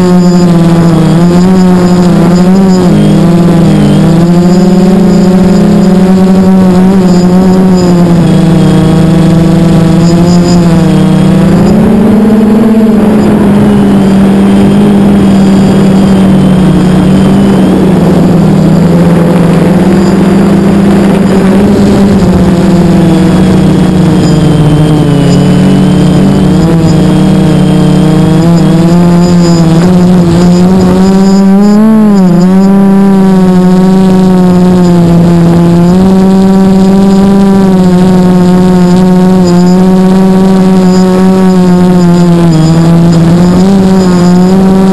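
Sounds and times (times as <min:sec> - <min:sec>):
drone motors buzzing: 0:00.0 - 0:44.9.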